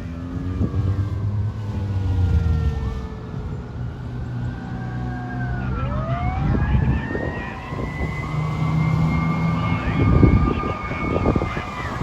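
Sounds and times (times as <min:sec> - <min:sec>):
fire truck sirens wailing: 0:00.0 - 0:12.0
truck engines rumbling: 0:00.0 - 0:12.0.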